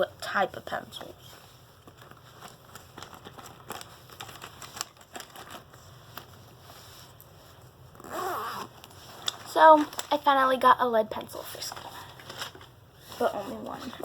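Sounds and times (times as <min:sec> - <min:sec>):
rustling and crinkling: 0:00.8 - 0:10.6, 0:11.4 - 0:14.0.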